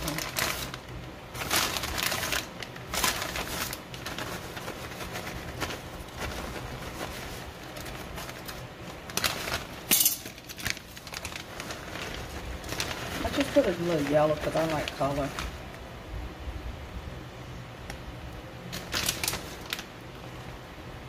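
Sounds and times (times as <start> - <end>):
plastic bag crinkling: 0.0 - 15.9, 18.6 - 20.5
steady low hum: 0.0 - 21.0.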